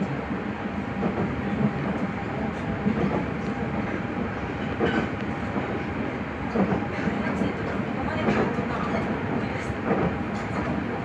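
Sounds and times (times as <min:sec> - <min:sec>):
train wheel-on-rail rumble: 0:00.0 - 0:11.0.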